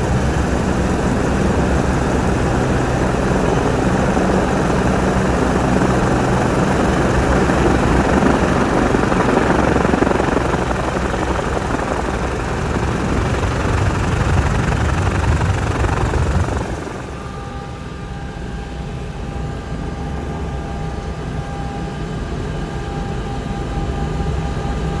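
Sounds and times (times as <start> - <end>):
helicopter turbine and rotor: 0.0 - 25.0.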